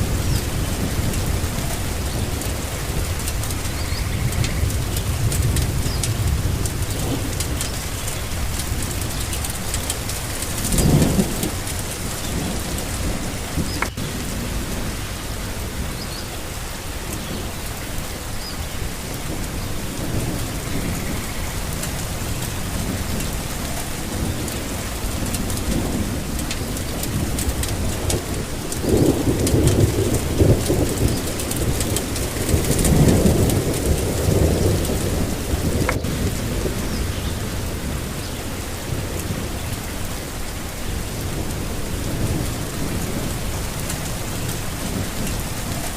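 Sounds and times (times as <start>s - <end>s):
steady rain falling: 0.0s - 45.9s
thunder rumbling: 0.0s - 45.9s.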